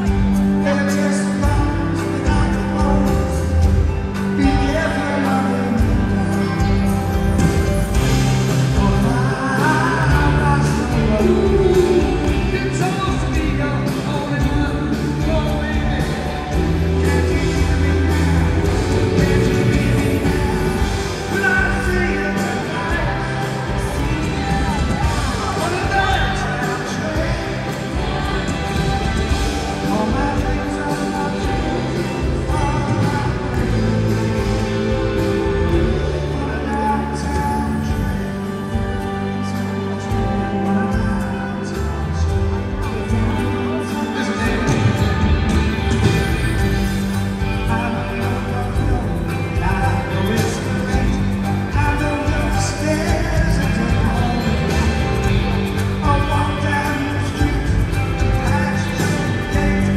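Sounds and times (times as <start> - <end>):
bass guitar: 0.0 - 59.9
drums: 0.0 - 59.9
electric guitar: 0.0 - 59.9
live rock band playing a ballad: 0.0 - 59.9
man singing: 0.0 - 59.9
violin line: 0.0 - 59.9.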